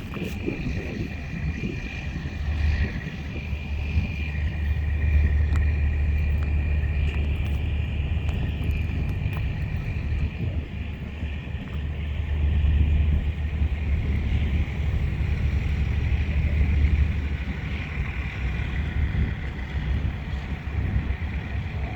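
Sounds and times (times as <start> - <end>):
vehicle engine rumbling: 0.0 - 21.9.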